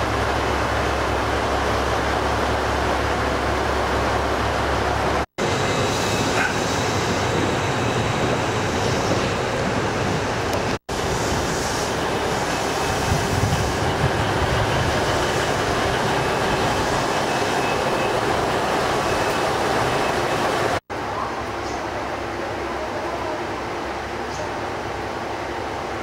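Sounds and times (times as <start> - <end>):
diesel railcar rumbling: 0.0 - 26.0.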